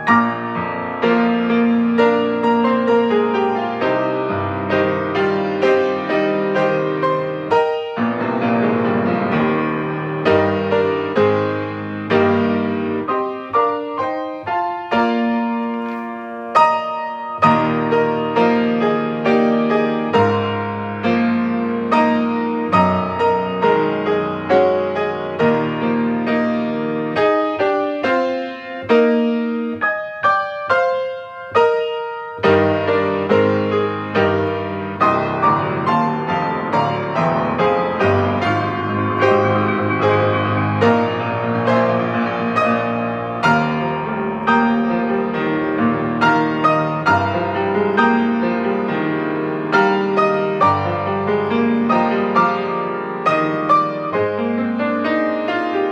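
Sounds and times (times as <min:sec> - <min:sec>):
solo piano music: 0:00.0 - 0:55.9.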